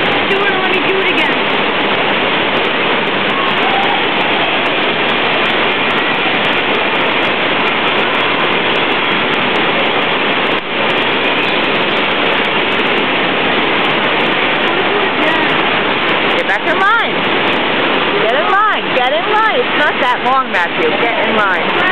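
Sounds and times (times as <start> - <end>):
loud rush of pumped water: 0.0 - 21.9.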